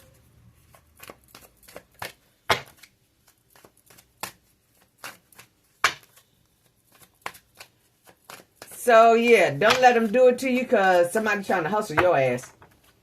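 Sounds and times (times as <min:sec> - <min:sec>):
cards being shuffled by hand: 0:00.0 - 0:13.0.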